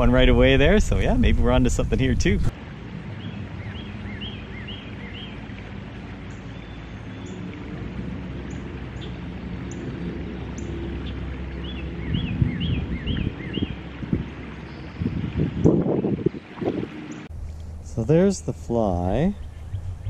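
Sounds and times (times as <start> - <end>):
songbird chirping: 3.1 - 20.0.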